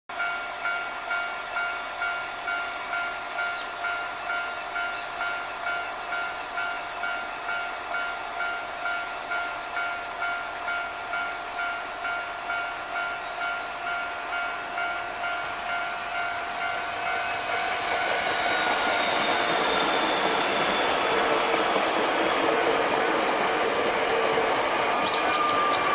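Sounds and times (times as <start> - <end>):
approaching train running noise: 0.1 - 25.9.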